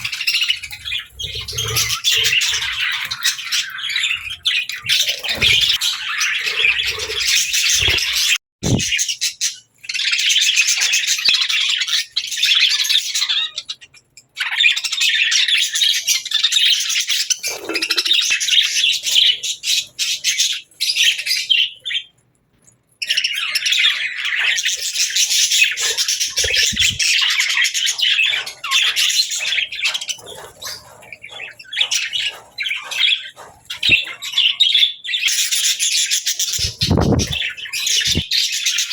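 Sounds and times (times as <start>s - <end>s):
budgerigars chattering: 0.0s - 9.2s, 14.6s - 22.0s, 23.0s - 38.9s.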